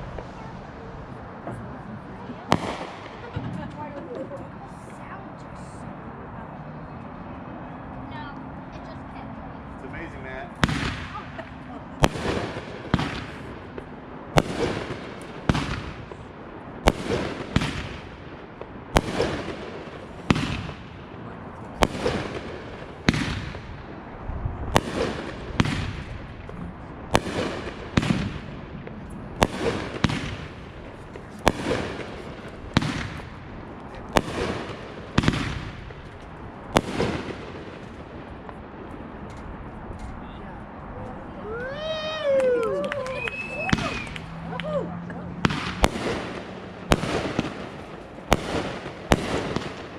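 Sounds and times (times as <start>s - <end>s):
fireworks bangs with crackle: 0.0s - 4.0s, 9.9s - 40.3s, 43.1s - 44.3s, 45.4s - 49.9s.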